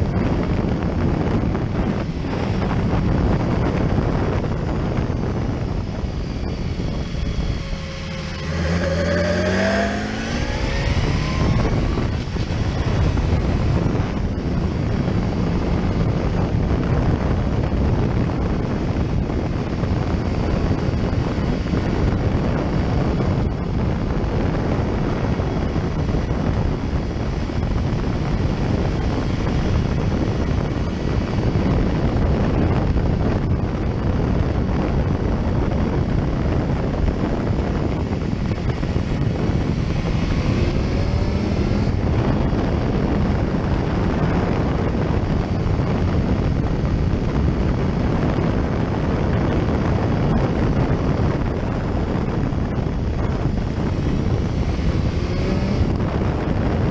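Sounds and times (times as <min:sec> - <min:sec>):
faint rising whine: 0:00.0 - 0:34.0, 0:36.2 - 0:52.0
motorcycle engine: 0:00.0 - 0:56.9
wind rush on microphone: 0:00.0 - 0:56.9.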